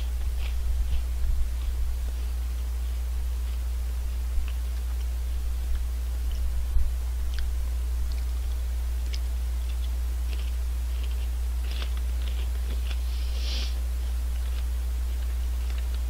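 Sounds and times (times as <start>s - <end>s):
crunching potato snack: 0.0s - 16.0s
low electrical hum: 0.0s - 16.0s.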